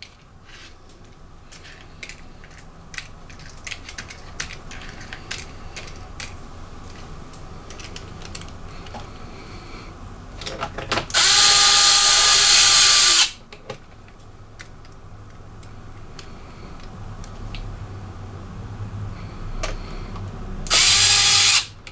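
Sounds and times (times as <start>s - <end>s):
hiss with steady whine: 0.0s - 10.4s, 11.1s - 21.9s.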